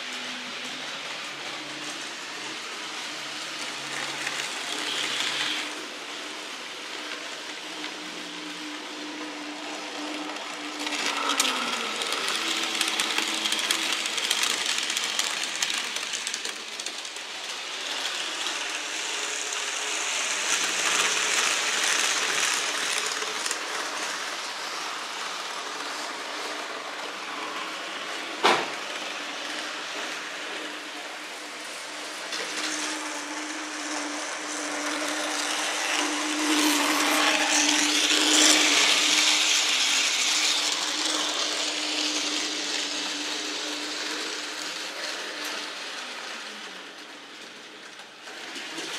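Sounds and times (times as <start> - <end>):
wheels hissing on track: 0.0 - 48.9
whir of small electric motors: 0.0 - 48.9.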